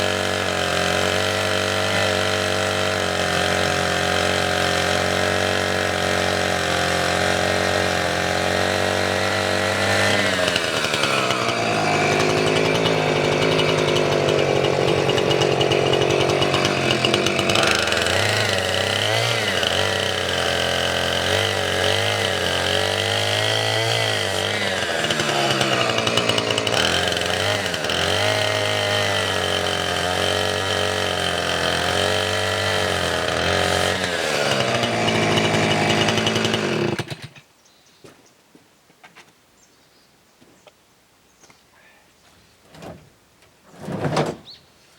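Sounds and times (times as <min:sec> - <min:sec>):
chainsaw cutting firewood: 0:00.0 - 0:37.5.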